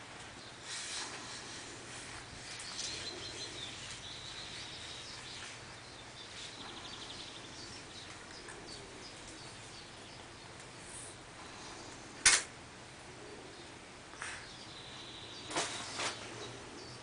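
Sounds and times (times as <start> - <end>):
faint low hum: 0.0 - 17.0
small birds chirping: 0.0 - 17.0.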